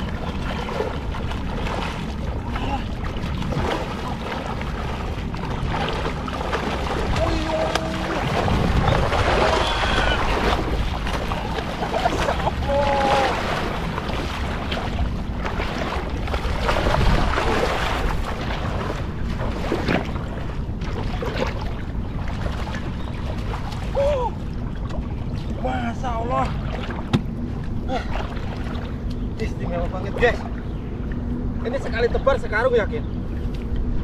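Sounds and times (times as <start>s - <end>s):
moving water: 0.0s - 34.0s
wind on microphone: 0.0s - 34.0s.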